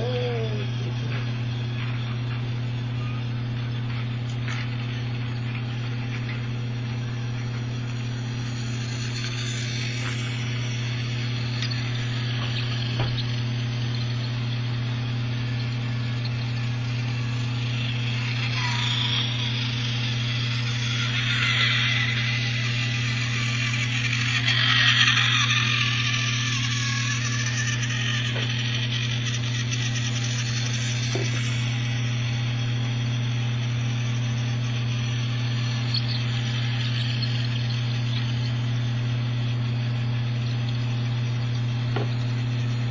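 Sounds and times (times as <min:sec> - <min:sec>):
toy train motor whirring: 0:00.0 - 0:02.2, 0:03.9 - 0:38.7
low steady hum: 0:00.0 - 0:42.9.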